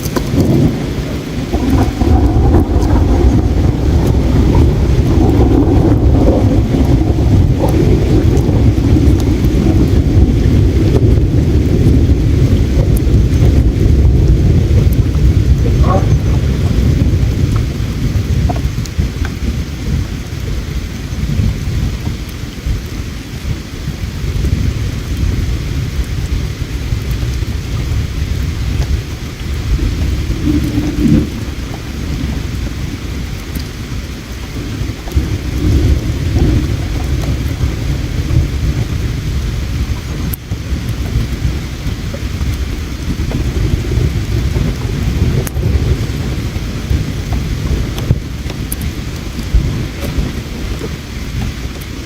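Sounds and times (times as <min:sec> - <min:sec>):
campfire crackles: 0:00.0 - 0:52.0
flowing river water: 0:00.0 - 0:52.0.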